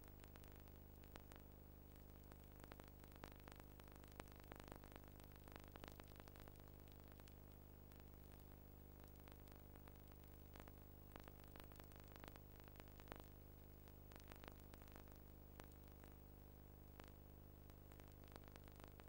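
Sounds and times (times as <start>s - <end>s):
faint clicks and crackles: 0.0s - 19.0s
faint electrical hum: 0.0s - 19.0s.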